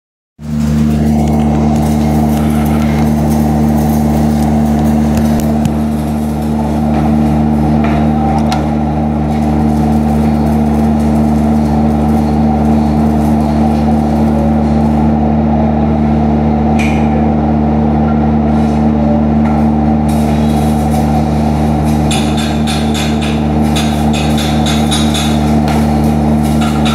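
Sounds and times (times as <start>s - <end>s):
low machine hum: 0.4s - 26.9s.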